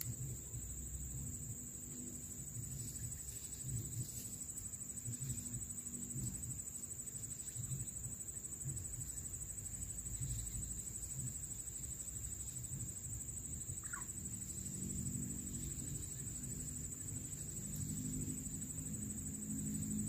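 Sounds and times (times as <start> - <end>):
high-pitched insect trill: 0.0 - 20.0
low background rumble: 0.0 - 20.0.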